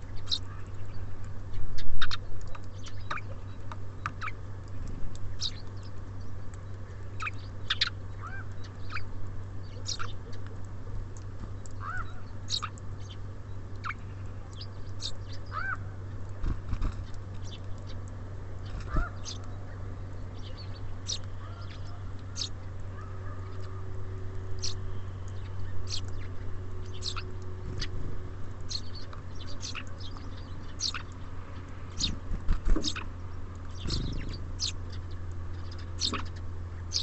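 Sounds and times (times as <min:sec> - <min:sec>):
small birds chirping: 0:00.0 - 0:37.0
steady low hum: 0:00.0 - 0:37.0.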